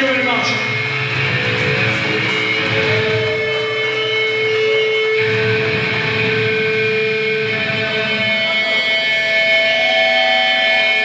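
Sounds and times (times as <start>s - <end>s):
electric guitar long held tones: 0.0s - 11.0s.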